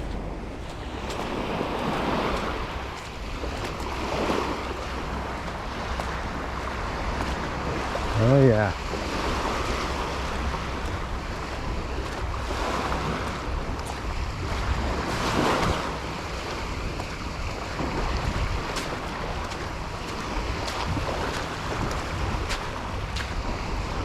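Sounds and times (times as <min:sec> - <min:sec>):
surf washing onto beach: 0:00.0 - 0:24.0
wind buffeting microphone: 0:00.0 - 0:24.0.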